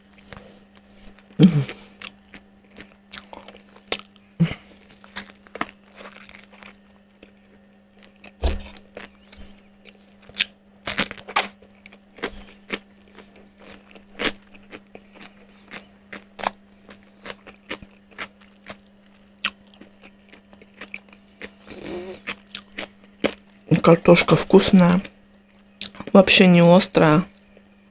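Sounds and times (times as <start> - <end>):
chewing crispy food: 0.0 - 26.2
steady hum: 0.0 - 27.9.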